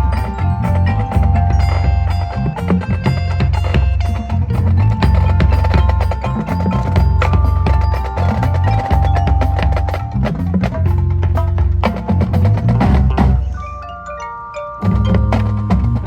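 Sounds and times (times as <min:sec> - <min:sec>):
rapid drum strikes: 0:00.0 - 0:13.6, 0:14.9 - 0:16.0
low bass: 0:00.0 - 0:13.8, 0:14.8 - 0:16.0
mallet percussion and bells: 0:00.0 - 0:16.0.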